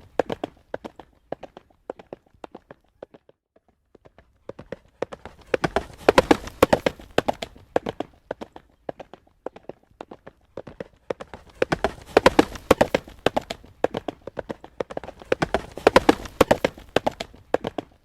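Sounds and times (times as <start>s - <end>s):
horse hooves trotting on pavement: 0.0s - 18.0s.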